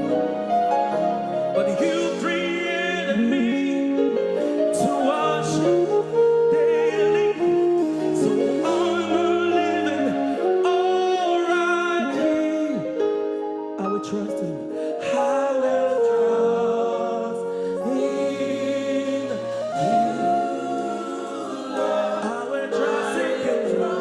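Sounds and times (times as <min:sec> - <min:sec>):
keyboard accompaniment: 0:00.0 - 0:24.0.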